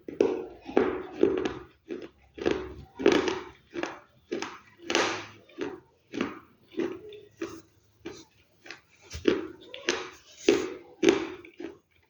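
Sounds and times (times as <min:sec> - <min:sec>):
crisp food crunching: 0:01.2 - 0:12.0.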